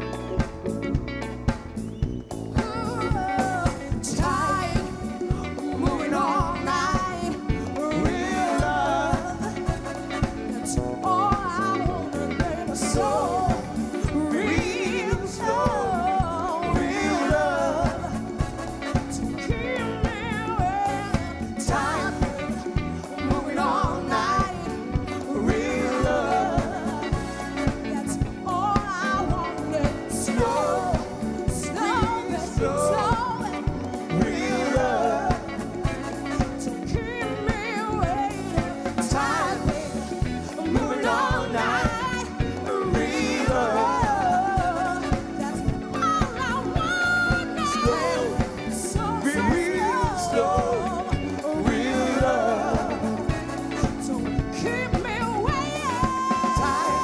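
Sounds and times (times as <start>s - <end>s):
bass guitar: 0.0s - 57.0s
drum kit: 0.0s - 57.0s
electric guitar: 0.0s - 57.0s
keyboards: 0.0s - 57.0s
person singing: 2.6s - 57.0s.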